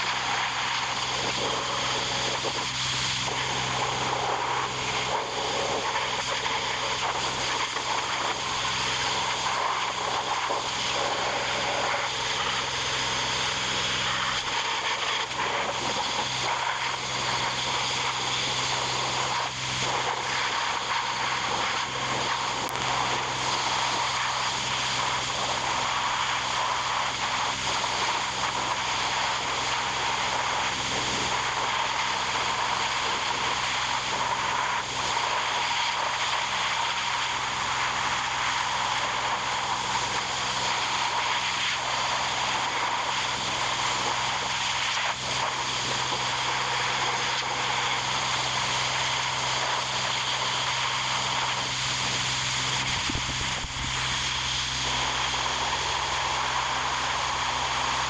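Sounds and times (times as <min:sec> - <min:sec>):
machine hiss and low hum: 0:00.0 - 0:58.0.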